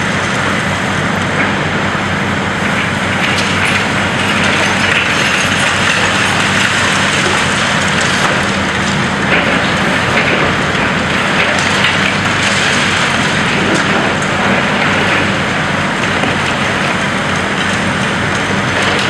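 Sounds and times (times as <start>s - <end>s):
diesel engine running: 0.0s - 19.0s
concrete cracking and falling: 2.6s - 19.0s.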